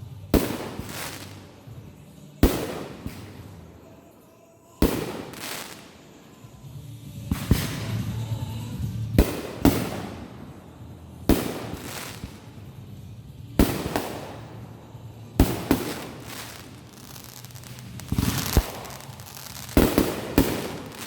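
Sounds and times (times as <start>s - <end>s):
crackling echo: 0.0s - 6.6s, 9.2s - 21.0s
fireworks bangs: 0.0s - 6.6s, 7.2s - 21.0s.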